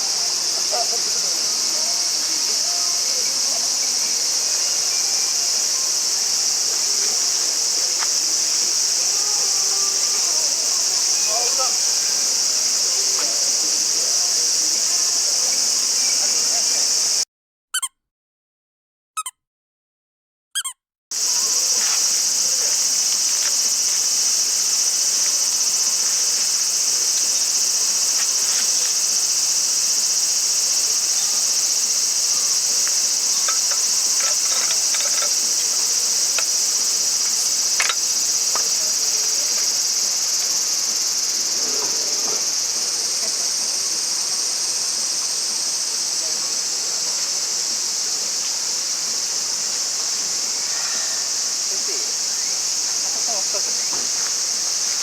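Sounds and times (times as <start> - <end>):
insects shrilling: 0.0 - 17.2, 20.6 - 55.0.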